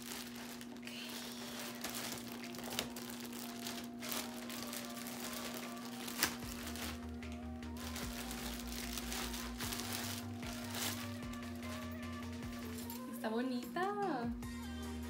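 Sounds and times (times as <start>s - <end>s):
plastic packaging crinkling: 0.0s - 13.0s
air conditioner hum: 0.0s - 15.0s.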